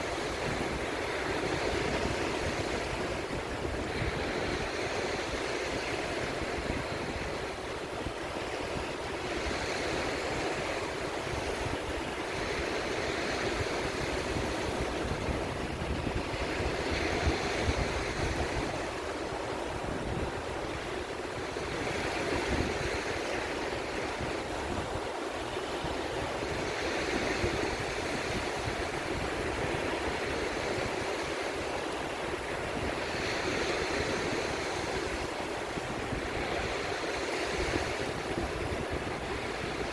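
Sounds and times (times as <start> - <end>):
sea waves washing in: 0.0 - 39.9
wind rumble on microphone: 0.0 - 39.9.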